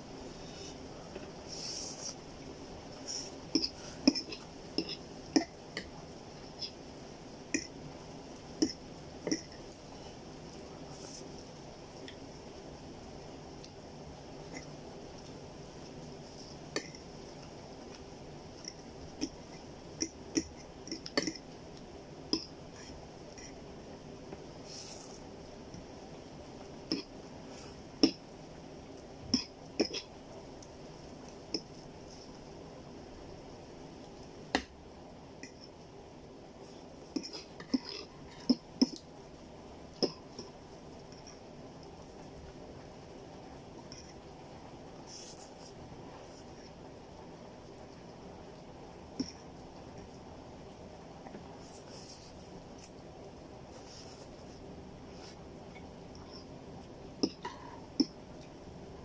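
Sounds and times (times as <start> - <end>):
faint steady background noise: 0.0 - 59.0
steady low hiss: 0.0 - 59.0.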